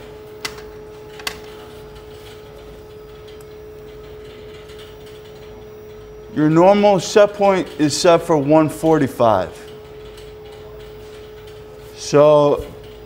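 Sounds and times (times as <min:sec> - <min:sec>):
mechanical equipment humming: 0:00.0 - 0:13.0.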